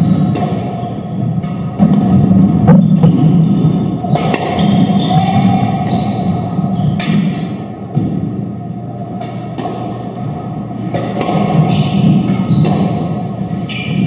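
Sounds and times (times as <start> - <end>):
squash ball hits: 0.0 - 8.4, 9.0 - 14.0.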